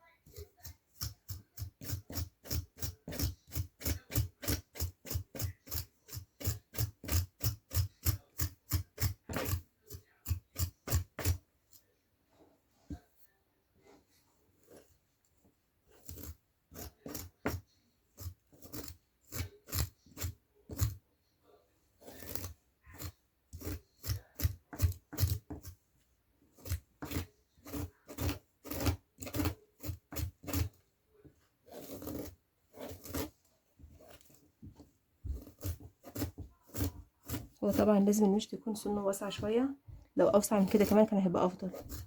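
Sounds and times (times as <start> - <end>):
comb rasping through hair: 0.0 - 25.8, 26.4 - 42.0.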